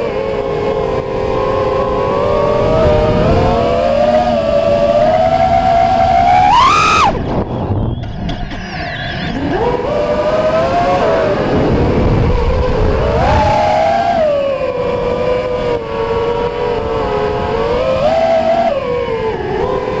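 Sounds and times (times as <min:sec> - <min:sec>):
drone motors whining: 0:00.0 - 0:20.0
wind rushing over microphone: 0:00.0 - 0:20.0.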